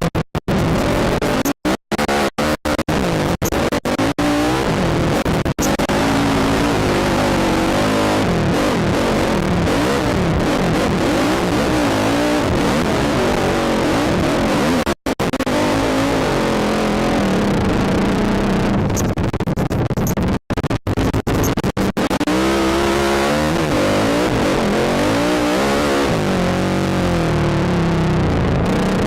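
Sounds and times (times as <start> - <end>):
quad engine revving: 0.5 - 19.1, 21.3 - 29.0.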